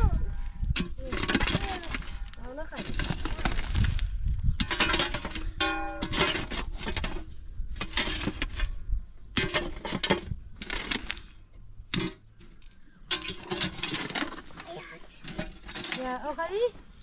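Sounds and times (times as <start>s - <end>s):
hard objects clattering: 0.6s - 16.7s.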